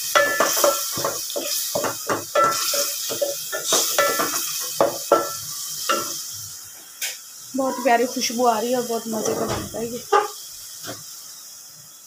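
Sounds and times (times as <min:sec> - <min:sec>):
paste frying in oil: 0:00.0 - 0:12.0.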